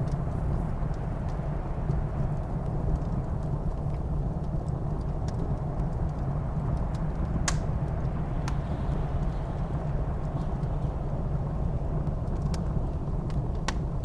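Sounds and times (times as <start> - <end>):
blizzard wind rumbling: 0.0 - 14.0
wood fire crackling: 0.0 - 14.0.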